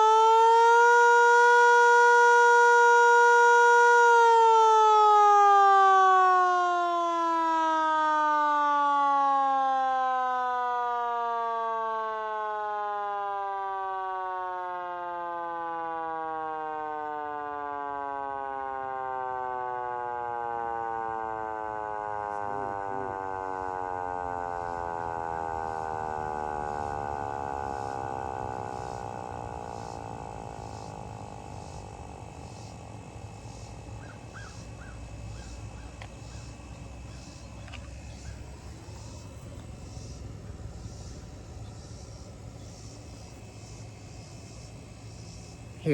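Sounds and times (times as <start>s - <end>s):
hand-crank siren winding down: 0.0s - 45.9s.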